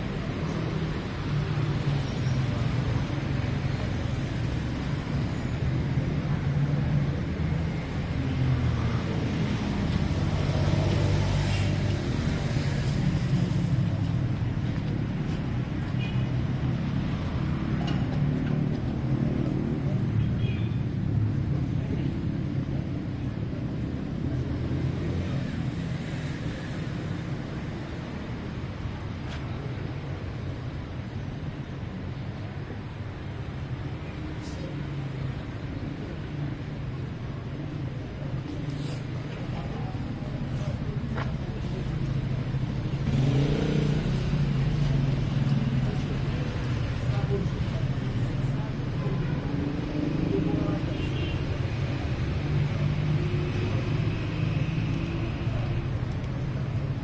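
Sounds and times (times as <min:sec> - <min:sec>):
traffic hum: 0:00.0 - 0:57.0.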